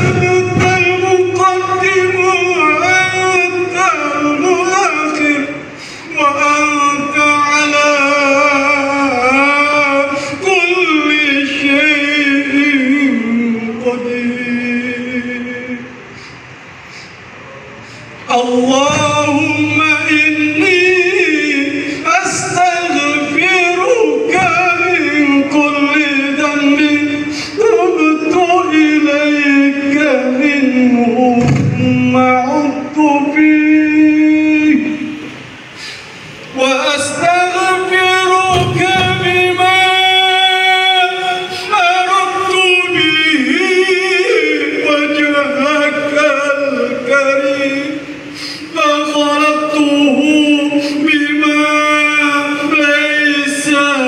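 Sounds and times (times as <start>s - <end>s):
man chanting over loudspeakers: 0.0s - 54.0s.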